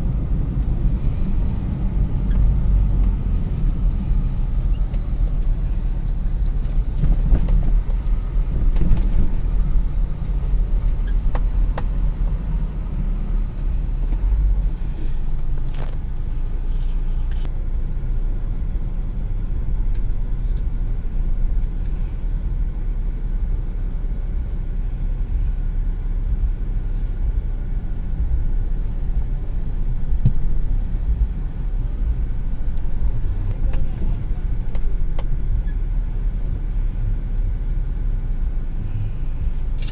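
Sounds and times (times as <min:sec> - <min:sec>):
vehicle engine rumble: 0:00.0 - 0:39.9.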